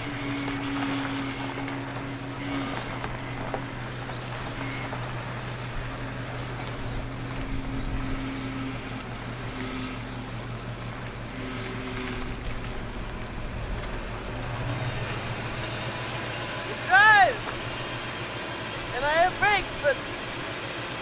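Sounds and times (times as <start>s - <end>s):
truck engine running at low speed: 0.0s - 21.0s.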